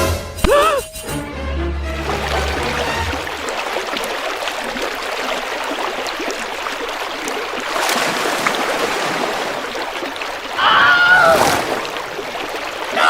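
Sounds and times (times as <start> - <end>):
small water splashes: 1.9 - 13.0
stream rushing and gurgling: 1.9 - 13.0.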